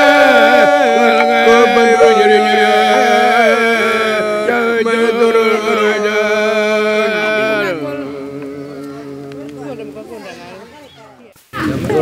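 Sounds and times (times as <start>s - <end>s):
group chanting long notes: 0.0s - 10.7s.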